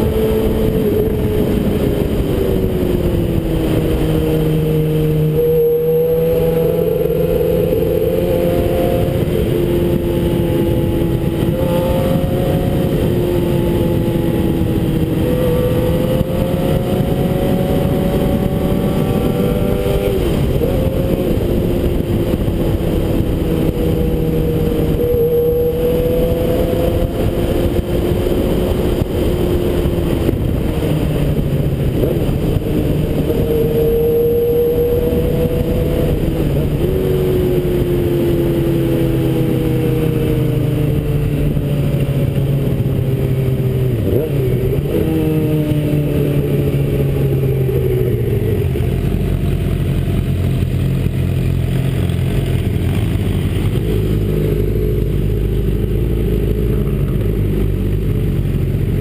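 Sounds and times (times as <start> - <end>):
motorcycle engine revving: 0.0 - 59.0
wind and road noise: 0.0 - 59.0.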